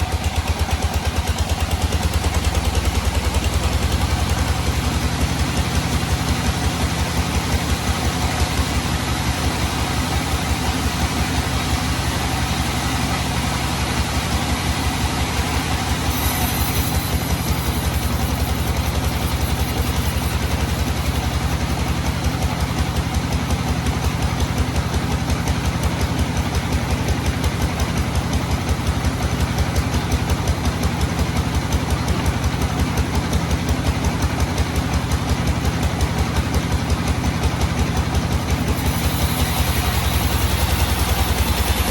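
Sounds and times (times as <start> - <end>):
sawmill engine running: 0.0 - 41.9.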